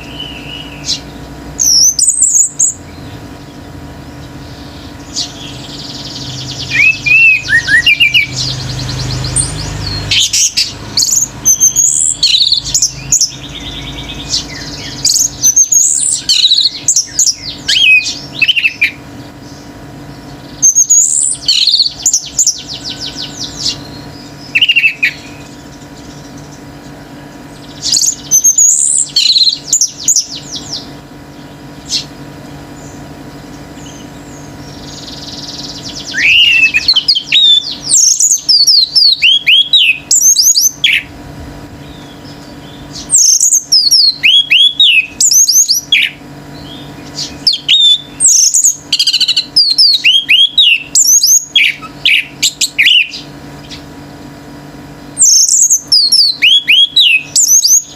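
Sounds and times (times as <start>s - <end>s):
thrush singing whistled notes: 0.0s - 41.2s, 41.8s - 53.8s, 55.1s - 57.9s
steady low hum: 0.0s - 57.9s.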